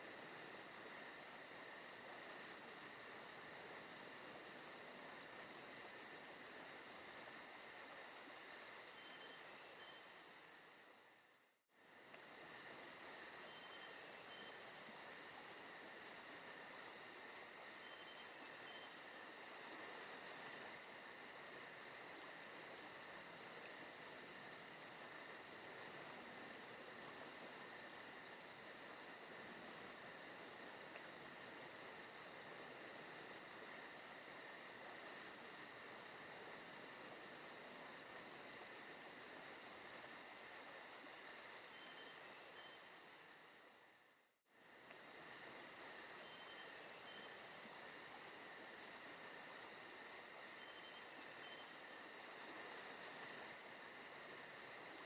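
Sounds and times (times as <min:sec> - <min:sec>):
crickets and insects chirring: 0:00.0 - 0:55.0.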